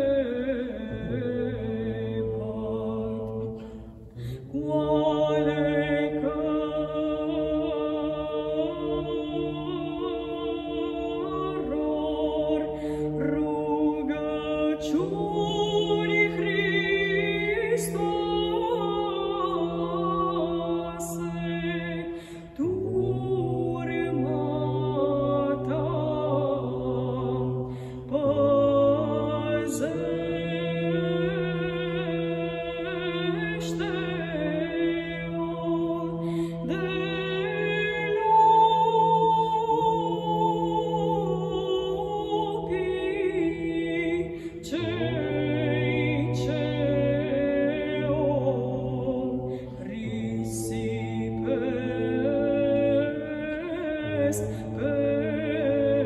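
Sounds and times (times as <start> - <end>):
woman singing chant: 4.4 - 56.0.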